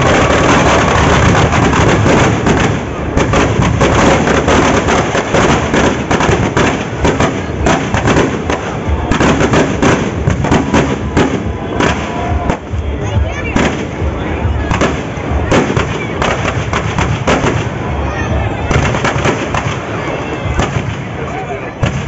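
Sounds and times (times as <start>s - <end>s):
firecrackers cracking and banging: 0.0s - 22.0s.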